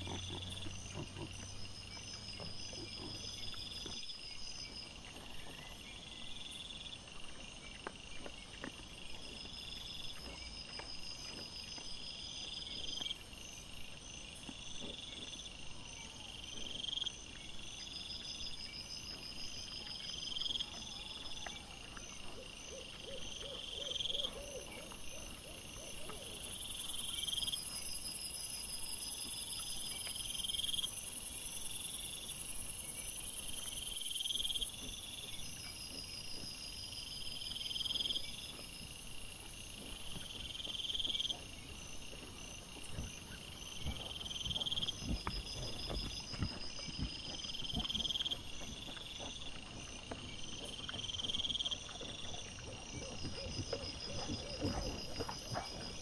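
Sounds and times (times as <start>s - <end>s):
high continuous insect trill: 0.0s - 56.0s
insects chirping: 0.0s - 56.0s.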